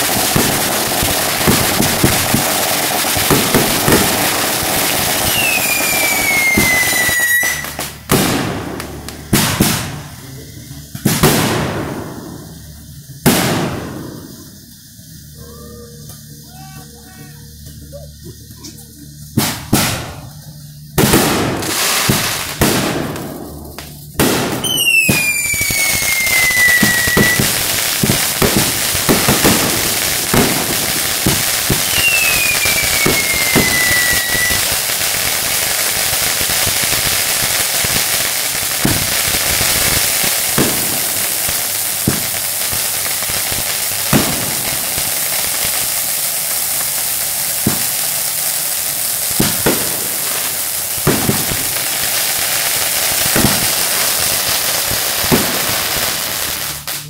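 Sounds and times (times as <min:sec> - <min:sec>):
falling firework whistles: 0:00.0 - 0:57.0
fireworks bangs: 0:00.0 - 0:57.0
fireworks hissing crackle: 0:00.0 - 0:57.0.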